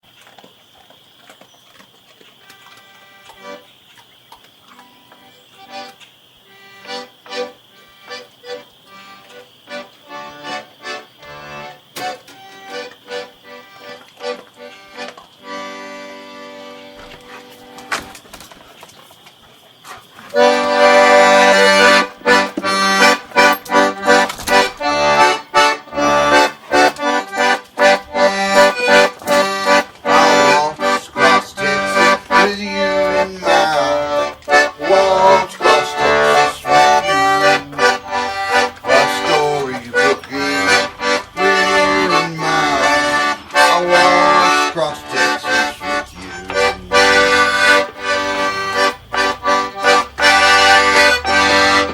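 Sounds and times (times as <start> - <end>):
accordion playing quick tune: 4.8 - 18.1, 20.3 - 51.9.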